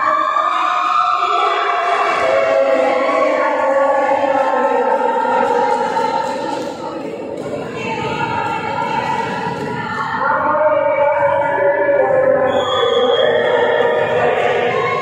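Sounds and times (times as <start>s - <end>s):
voices singing in echoing hall: 0.0s - 15.0s.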